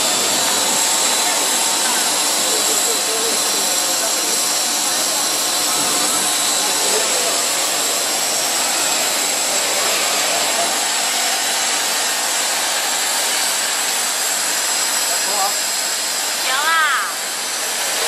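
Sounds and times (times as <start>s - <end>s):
extrusion machine hiss and whir: 0.0s - 18.0s
high-pitched machine whines: 0.0s - 18.0s.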